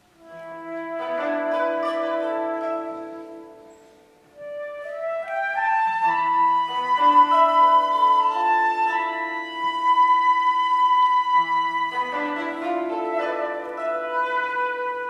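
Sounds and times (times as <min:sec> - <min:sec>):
flute and koto playing: 0:00.2 - 0:15.0.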